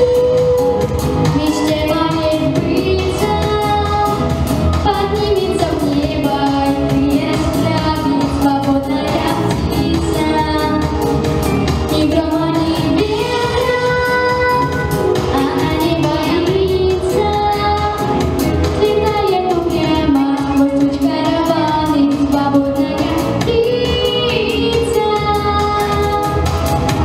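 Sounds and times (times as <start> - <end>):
girl singing pop ballad: 0.0 - 11.1, 11.8 - 26.6.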